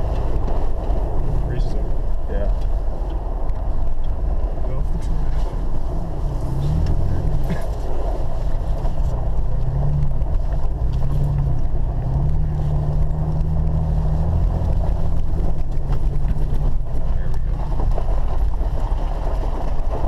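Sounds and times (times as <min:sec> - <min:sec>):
car engine droning: 0:00.0 - 0:20.0
tyres rumbling: 0:00.0 - 0:20.0.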